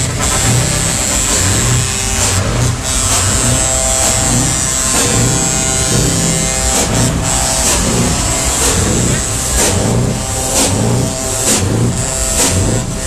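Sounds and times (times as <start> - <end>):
high-pitched buzz: 0.0 - 13.0
loud music with bass beat: 0.0 - 13.0.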